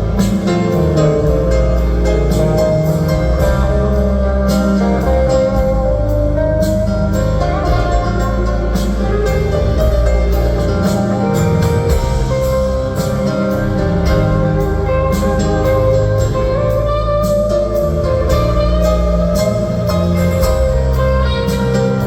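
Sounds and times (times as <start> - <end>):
guitar: 0.0 - 22.0
live rock band playing: 0.0 - 22.0.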